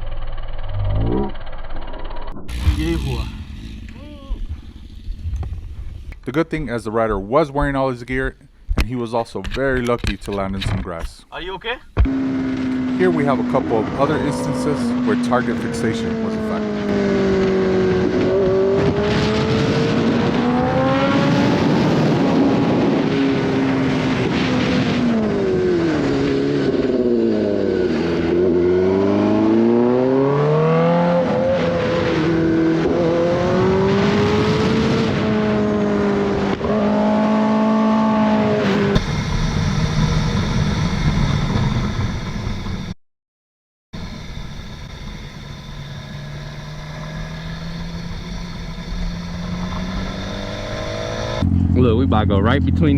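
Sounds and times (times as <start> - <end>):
motorcycle engine revving: 0.0 - 6.2, 12.0 - 42.6, 45.0 - 52.9
wind and road noise: 1.3 - 43.0, 44.0 - 52.9.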